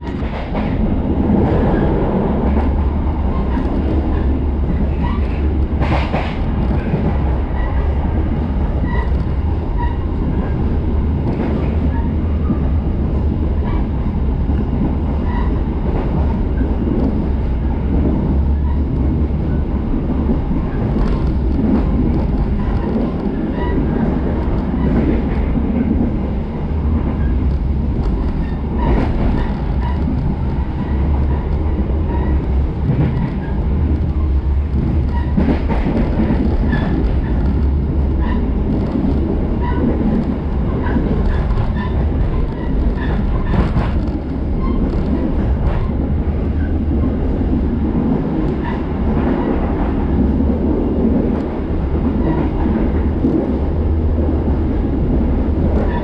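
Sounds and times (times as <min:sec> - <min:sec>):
train clicks and knocks: 0:00.0 - 0:56.0
train wheels rumbling on rail: 0:00.0 - 0:56.0.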